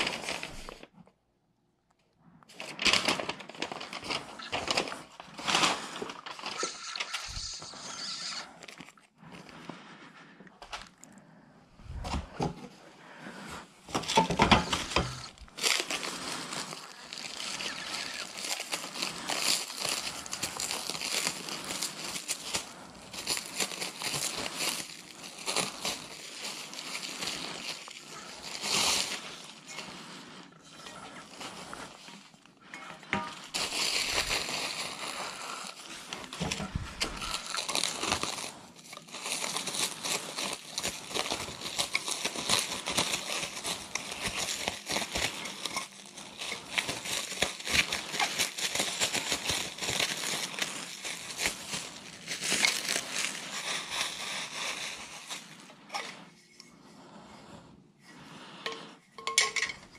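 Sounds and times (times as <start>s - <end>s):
plastic wrapping crinkling: 0.0s - 1.1s, 2.2s - 56.4s.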